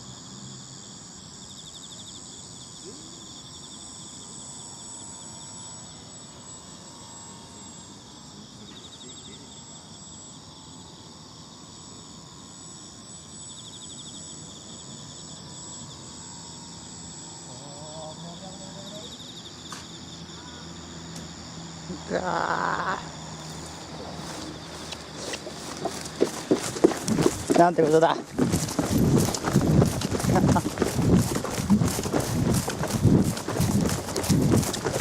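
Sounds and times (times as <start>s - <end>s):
distant model airplane motor drone: 0.0s - 35.0s
insects chirping in trills: 0.0s - 35.0s.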